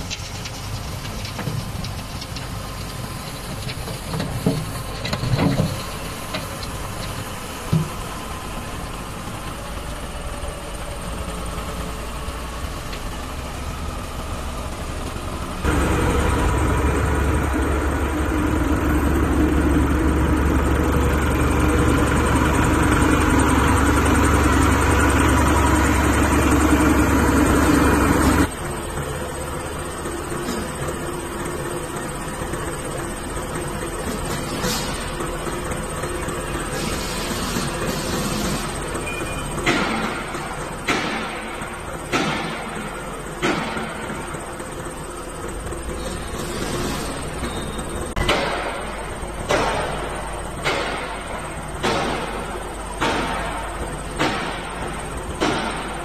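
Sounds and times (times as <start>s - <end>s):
sweeper machine engine running: 0.0s - 56.0s.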